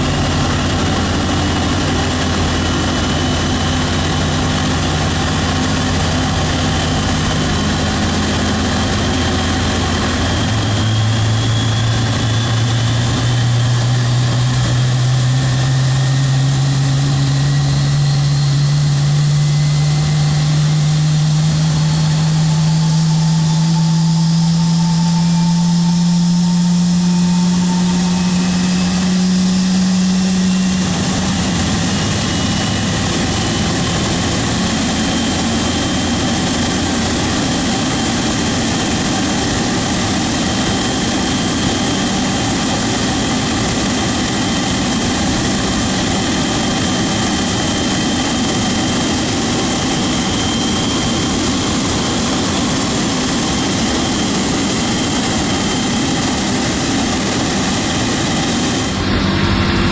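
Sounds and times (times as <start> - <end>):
jet engine starting: 0.0 - 59.9.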